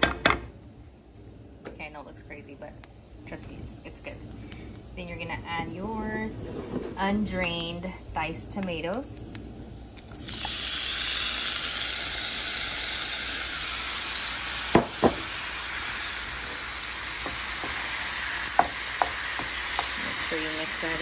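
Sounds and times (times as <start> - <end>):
tomatoes sizzling in a pan: 0.8 - 21.0.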